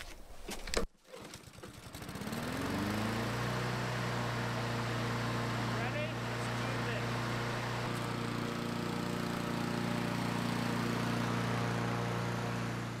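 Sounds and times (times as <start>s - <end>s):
lawn mower engine running: 1.0s - 13.0s.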